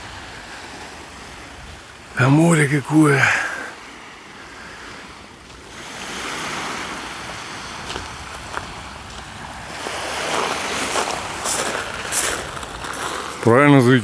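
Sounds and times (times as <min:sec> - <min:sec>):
surf breaking on shore: 0:00.0 - 0:14.0.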